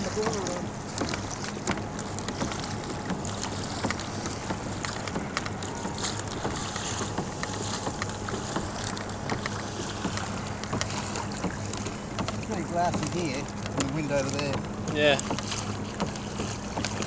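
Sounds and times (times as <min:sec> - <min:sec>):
water lapping against a hull: 0:00.0 - 0:17.0.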